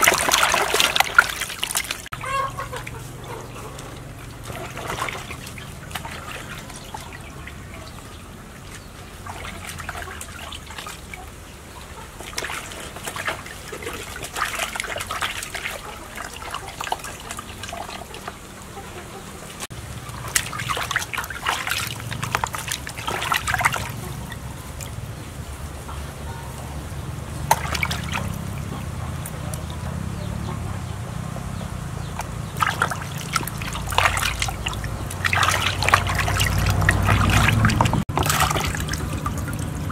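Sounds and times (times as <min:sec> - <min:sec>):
water splashing in plastic basin: 0:00.0 - 0:26.0, 0:26.8 - 0:30.4, 0:31.3 - 0:39.9.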